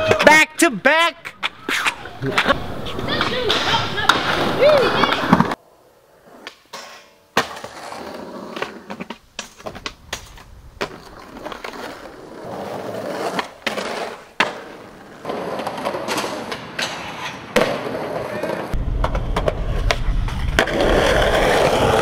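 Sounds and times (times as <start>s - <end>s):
skateboard wheels rolling on concrete: 0.0s - 22.0s
skateboard clacking on ground: 1.2s - 5.6s, 6.4s - 22.0s.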